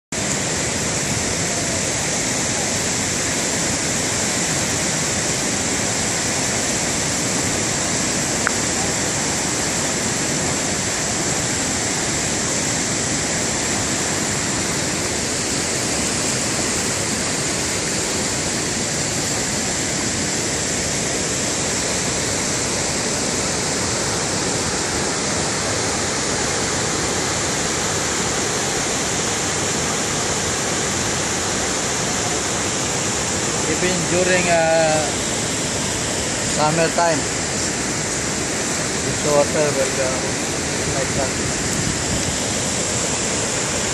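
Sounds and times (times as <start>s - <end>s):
river rapids and waterfall rushing: 0.1s - 43.9s.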